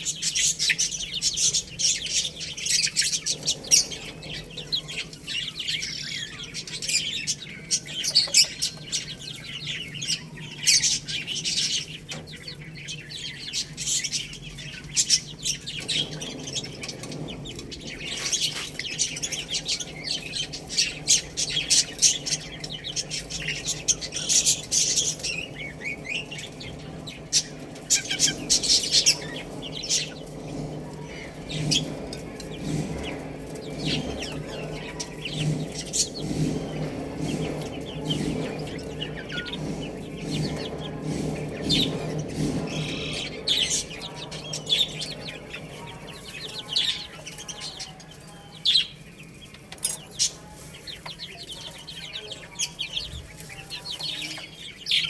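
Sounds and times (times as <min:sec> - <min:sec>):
baby chicks peeping: 0:00.0 - 0:55.0
chicken clucking: 0:00.0 - 0:55.0.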